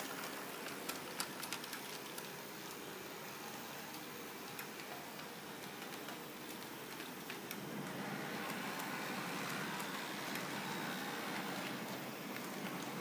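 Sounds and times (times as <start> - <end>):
model streetcar motor hum: 2.4 - 13.0.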